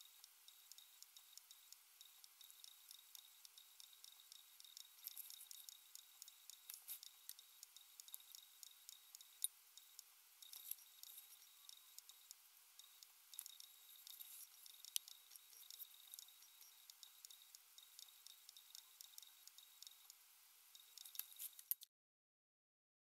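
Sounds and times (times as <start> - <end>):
faint clicks and ticks: 0.0 - 21.9.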